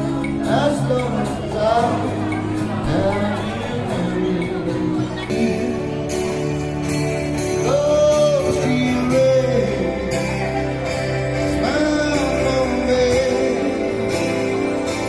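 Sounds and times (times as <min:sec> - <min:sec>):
man singing: 0:00.0 - 0:06.6, 0:07.4 - 0:15.0
acoustic guitar chords: 0:00.0 - 0:15.0.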